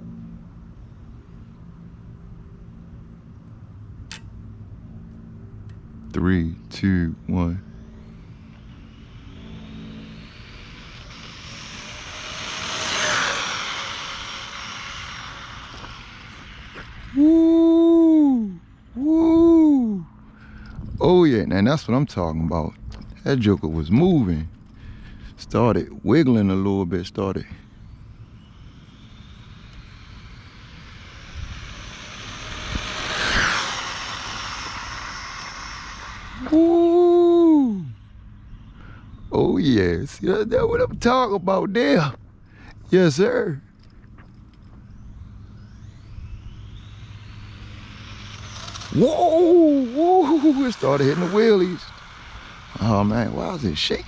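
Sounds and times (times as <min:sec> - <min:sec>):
electric motor whining: 0:05.1 - 0:54.0.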